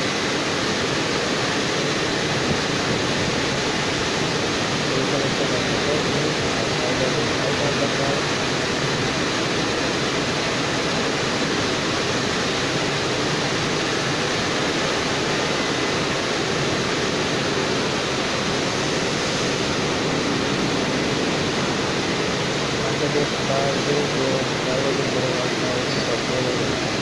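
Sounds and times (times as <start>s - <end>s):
car wash dryer blowers: 0.0s - 27.0s.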